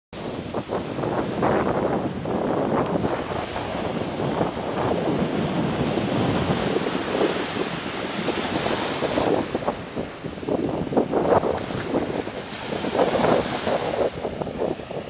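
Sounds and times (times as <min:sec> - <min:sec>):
small waves washing on sand: 0:00.2 - 0:15.0
wind buffeting microphone: 0:00.2 - 0:15.0.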